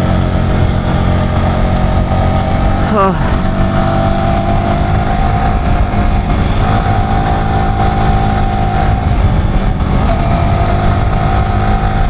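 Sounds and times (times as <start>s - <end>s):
motorcycle engine cruising: 0.0s - 12.0s
steady whine: 0.0s - 12.0s
wind rushing over microphone: 0.0s - 12.0s.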